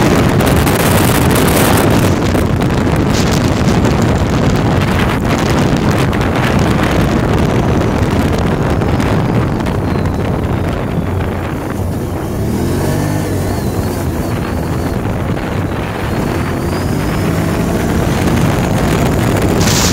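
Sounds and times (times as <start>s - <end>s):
atv engine running: 0.0s - 19.9s
wind buffeting microphone: 0.0s - 19.9s.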